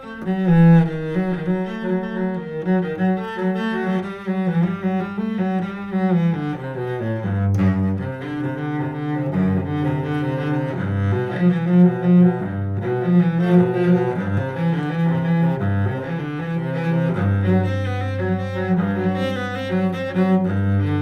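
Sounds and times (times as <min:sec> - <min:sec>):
cello bowed solo: 0:00.0 - 0:21.0.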